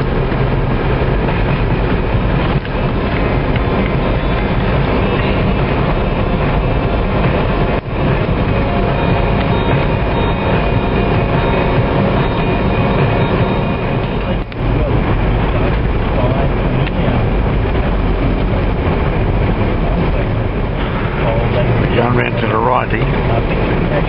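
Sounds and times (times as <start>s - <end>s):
vehicle engine and tyre noise: 0.0s - 24.0s.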